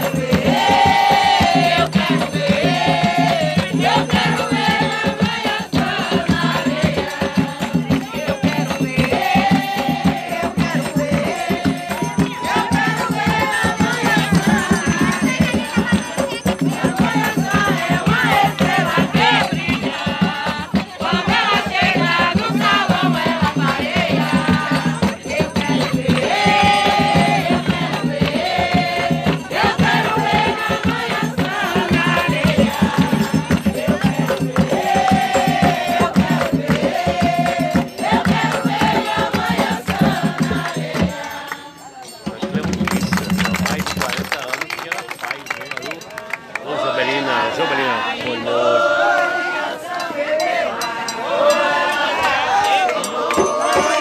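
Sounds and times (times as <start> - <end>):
group of voices singing: 0.0 - 42.8, 46.4 - 54.0
shaken rattle percussion: 0.0 - 46.8, 48.6 - 54.0.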